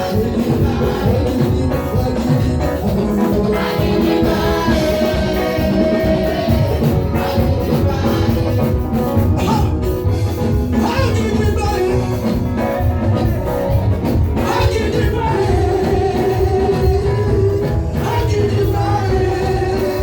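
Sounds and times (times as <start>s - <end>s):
gospel music with singing: 0.0s - 20.0s
steady percussion beat: 0.0s - 20.0s.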